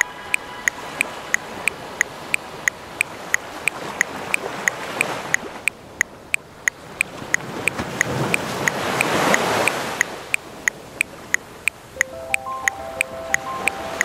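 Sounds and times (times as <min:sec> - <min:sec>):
metronome clicking: 0:00.0 - 0:14.0
ocean waves: 0:00.0 - 0:14.0.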